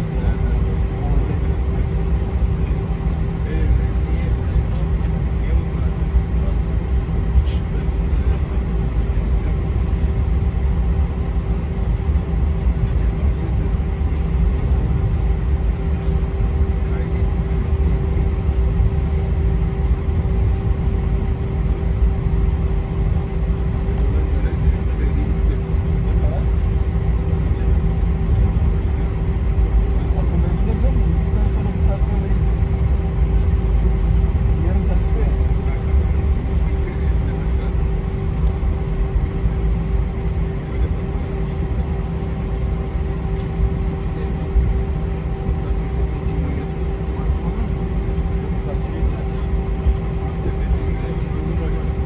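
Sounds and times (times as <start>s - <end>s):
airliner cabin rumble: 0.0s - 52.0s
steady cabin hum: 0.0s - 52.0s.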